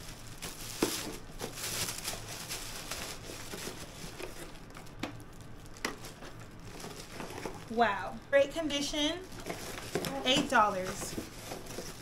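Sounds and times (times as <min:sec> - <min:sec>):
plastic bag crinkling: 0:00.0 - 0:08.0, 0:09.0 - 0:12.0.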